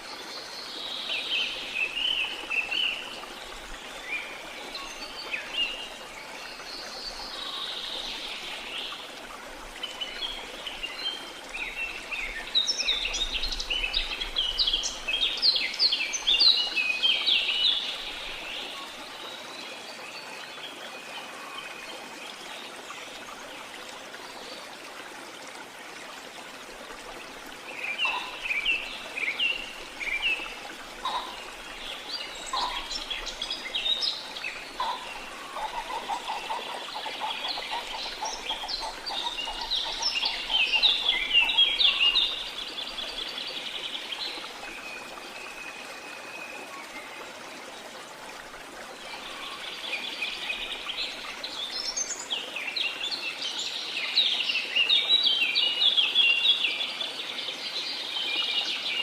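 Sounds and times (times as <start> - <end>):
water noise: 0.0 - 54.0.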